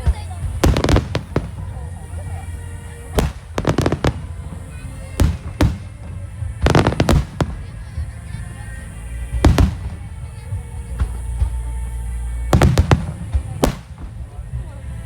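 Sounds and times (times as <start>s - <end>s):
fireworks bursting in loud bangs: 0.0s - 11.8s, 12.5s - 14.8s
background music: 0.0s - 15.0s.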